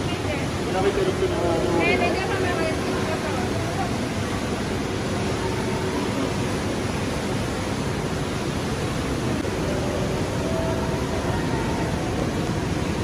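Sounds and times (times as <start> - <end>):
faint hum: 0.0 - 13.0
steady rushing roar: 0.0 - 13.0.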